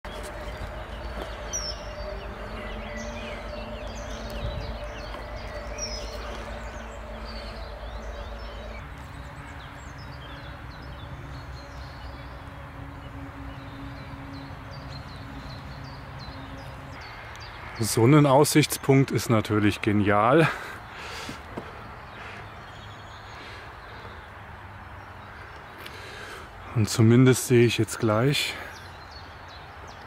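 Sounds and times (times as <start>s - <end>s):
outdoor background noise: 0.0s - 30.0s
songbirds chirping: 0.0s - 30.0s.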